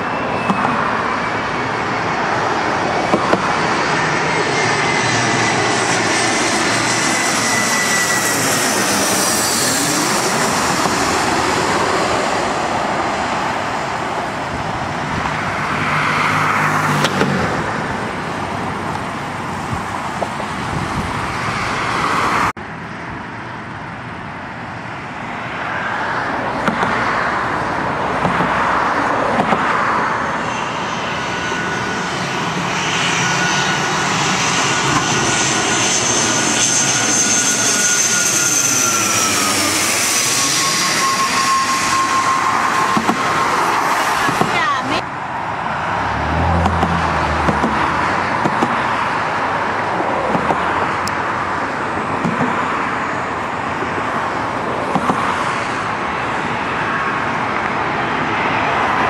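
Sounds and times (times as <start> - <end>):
jet airliner engines: 0.0 - 59.0
propeller plane passing overhead: 0.0 - 59.0.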